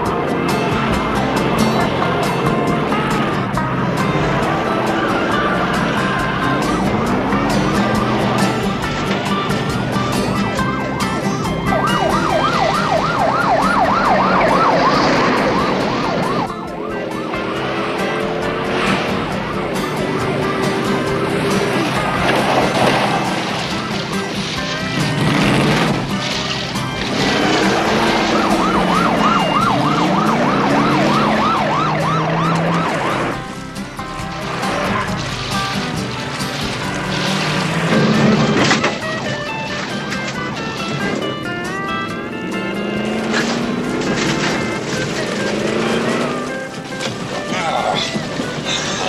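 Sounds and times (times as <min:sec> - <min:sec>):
car engine: 0:00.0 - 0:49.0
police siren wailing: 0:00.0 - 0:49.0.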